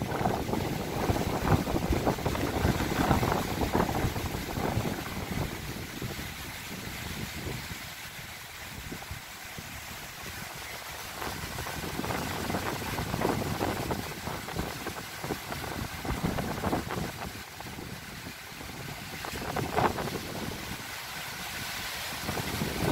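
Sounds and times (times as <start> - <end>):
wind blowing through trees: 0.0 - 22.9
wind buffeting microphone: 0.0 - 22.9.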